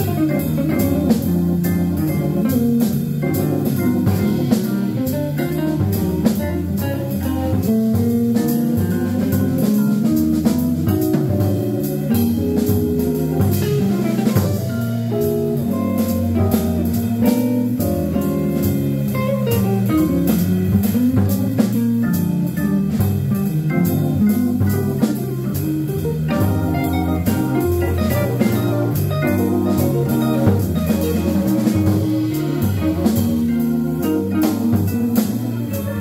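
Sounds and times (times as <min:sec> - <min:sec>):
drum kit cymbal strokes: 0:00.0 - 0:36.0
electric guitar: 0:00.0 - 0:36.0
electric keyboard: 0:00.0 - 0:36.0.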